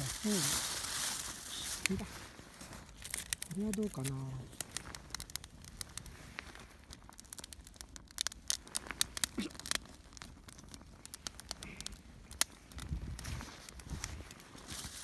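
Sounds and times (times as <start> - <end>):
kindling crackling and snapping: 0.0 - 15.0.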